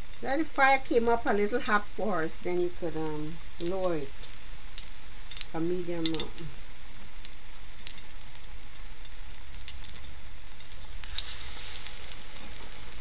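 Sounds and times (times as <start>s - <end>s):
hot oil sizzling and crackling: 0.0s - 13.0s.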